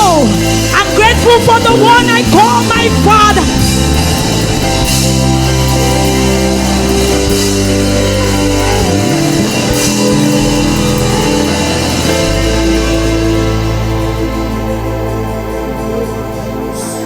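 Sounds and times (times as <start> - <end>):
drums with cymbal wash: 0.0 - 15.8
bass: 0.0 - 17.0
sustained keyboard chords: 0.0 - 17.0.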